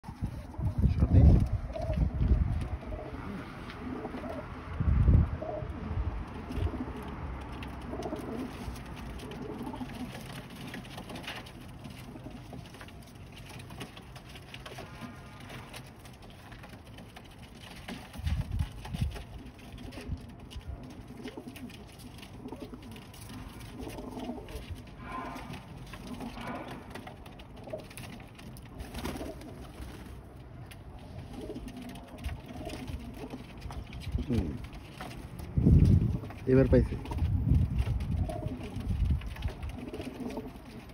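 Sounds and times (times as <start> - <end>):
pigeons cooing: 0.1 - 40.9.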